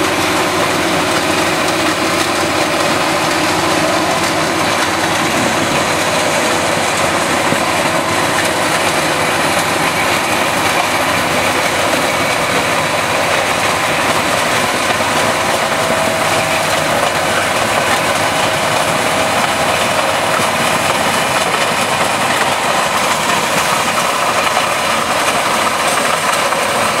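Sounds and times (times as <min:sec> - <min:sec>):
stone crusher grinding rock: 0:00.0 - 0:27.0
tractor diesel engine under load: 0:00.0 - 0:27.0.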